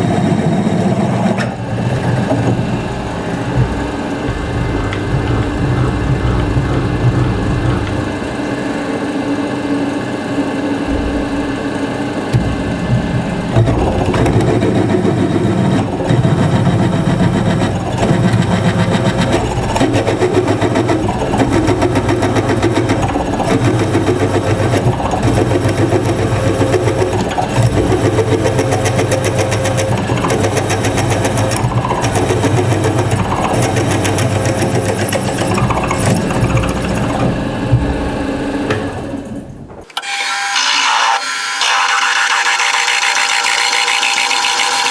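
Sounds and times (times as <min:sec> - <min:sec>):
metalworking machine tool running: 0:00.0 - 0:44.9.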